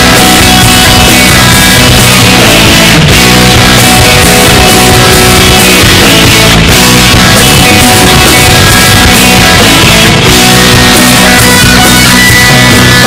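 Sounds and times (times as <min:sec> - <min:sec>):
loud rock music with guitar: 0:00.0 - 0:13.0.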